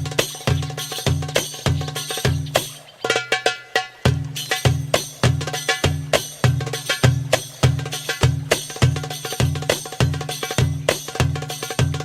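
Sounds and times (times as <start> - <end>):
goblet drum rhythm: 0.0 - 12.0.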